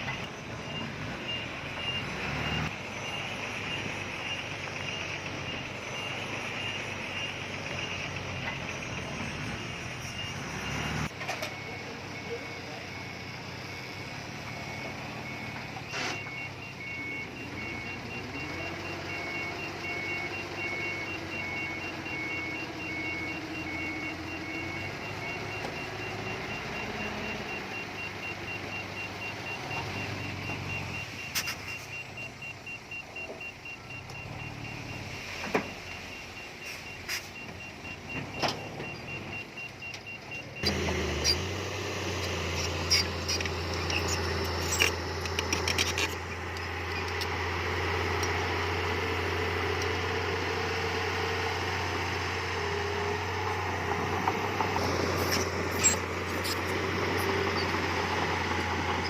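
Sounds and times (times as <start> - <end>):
reversing alarm beeping: 0.0 - 59.0.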